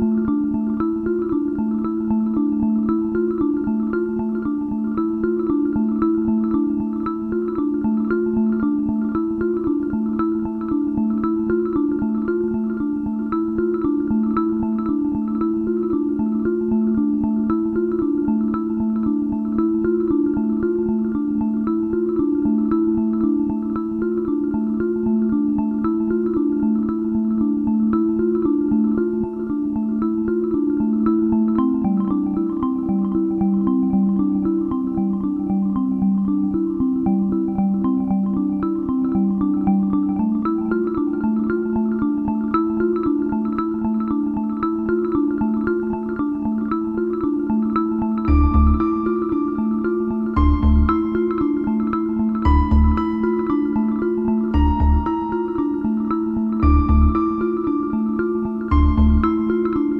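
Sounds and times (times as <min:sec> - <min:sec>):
fast repeating background music: 0:00.0 - 0:59.9.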